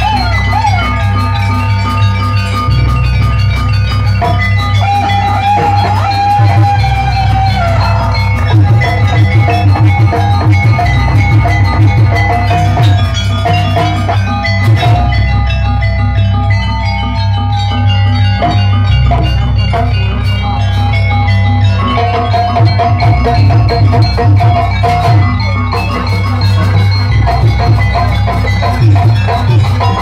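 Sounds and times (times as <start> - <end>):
drums: 0.0 - 30.0
ringing metallophones: 0.0 - 30.0.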